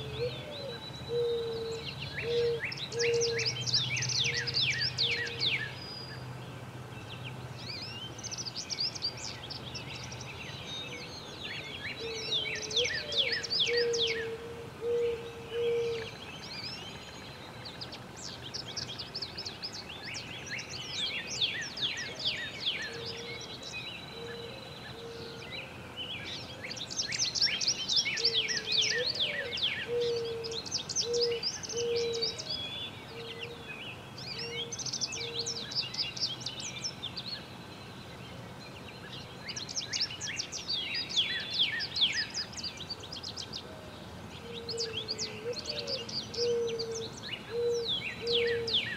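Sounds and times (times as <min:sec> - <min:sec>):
songbird trills: 0:00.0 - 0:48.9.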